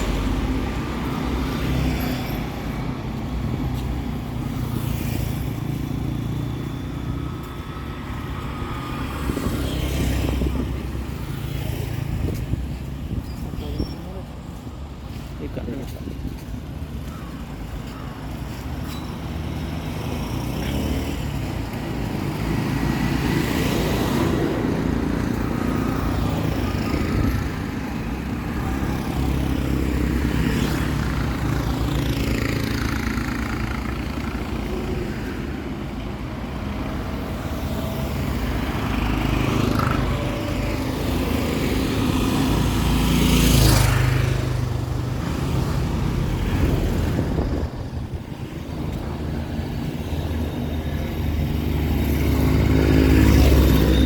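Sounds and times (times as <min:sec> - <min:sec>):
road vehicle engines running: 0:00.0 - 0:54.0
vehicles passing by: 0:00.0 - 0:54.0.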